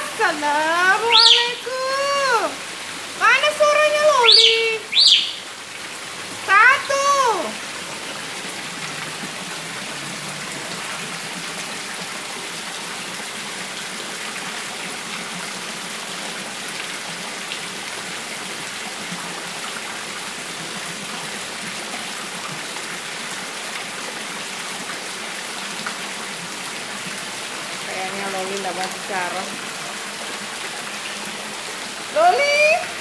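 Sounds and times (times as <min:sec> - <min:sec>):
water splashing into pond: 0:00.0 - 0:33.0.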